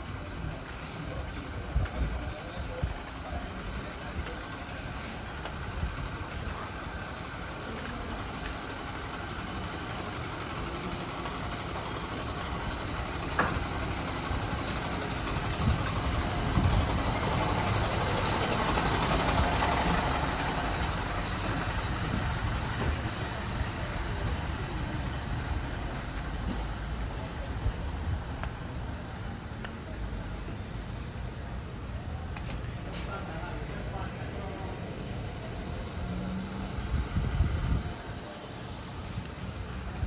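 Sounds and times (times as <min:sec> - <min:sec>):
motor vehicle rumbling: 0:00.0 - 0:40.0
street noise: 0:00.0 - 0:40.0.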